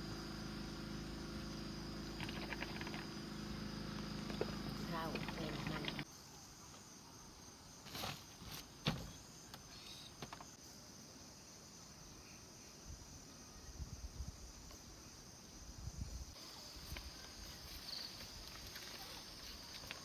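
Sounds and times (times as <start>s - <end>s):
crickets and insects chirring: 0.0s - 20.0s.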